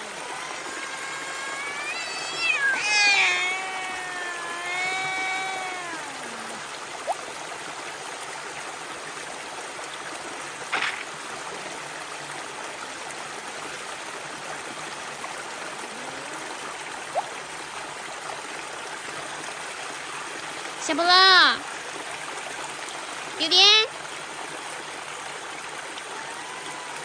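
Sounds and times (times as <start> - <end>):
small waterfall splashing over rocks: 0.0 - 27.0.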